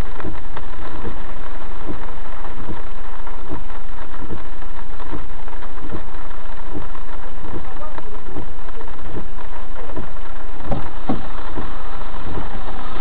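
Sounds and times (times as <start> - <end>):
rain falling on car: 0.0 - 13.0.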